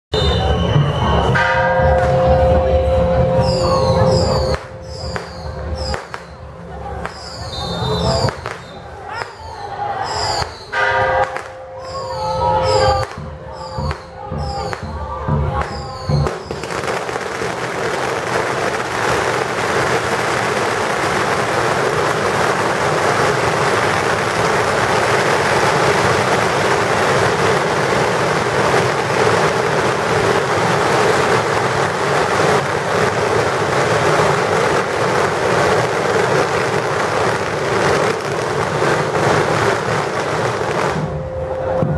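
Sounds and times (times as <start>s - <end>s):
firecrackers crackling: 3.2s - 41.9s.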